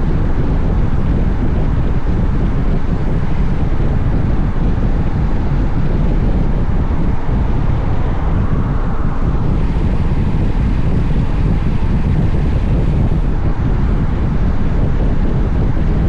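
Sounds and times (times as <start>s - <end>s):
wind roar on microphone: 0.0s - 16.0s.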